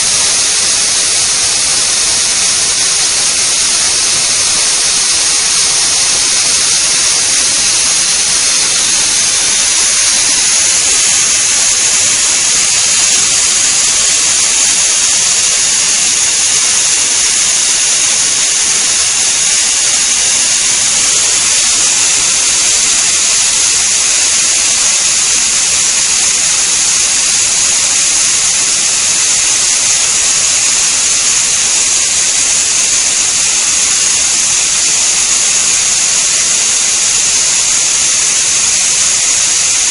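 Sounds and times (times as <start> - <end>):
pressure cooker whistle hissing: 0.0 - 39.9.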